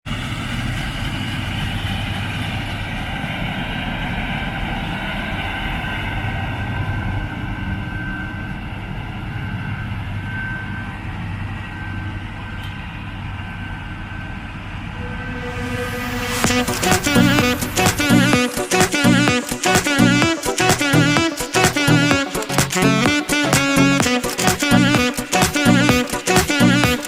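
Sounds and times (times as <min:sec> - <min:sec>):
low engine drone: 0:00.1 - 0:27.0
high whine: 0:01.5 - 0:27.0.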